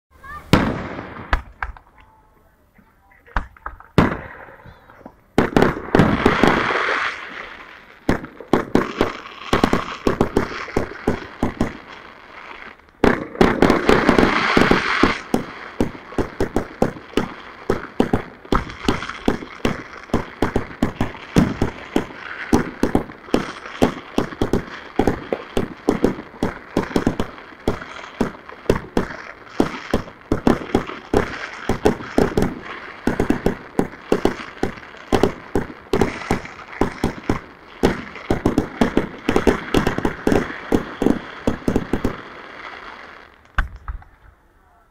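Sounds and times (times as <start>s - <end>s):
fireworks bangs and pops: 0.2s - 2.2s, 2.8s - 44.2s.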